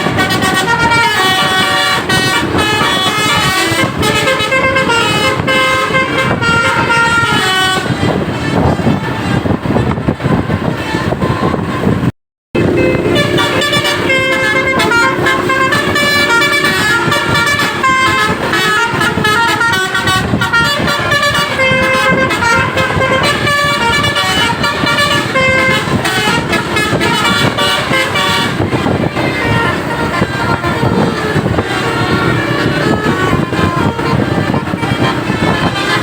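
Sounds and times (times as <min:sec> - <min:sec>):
bus engines running: 0:00.0 - 0:36.0
multi-tone bus horns melody: 0:00.0 - 0:36.0.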